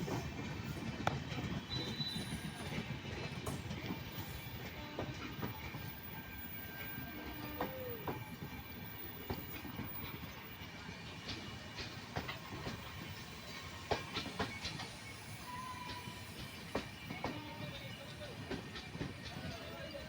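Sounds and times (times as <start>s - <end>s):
train wheel squeal: 0.0s - 20.0s
train wheels rumbling: 0.0s - 20.0s.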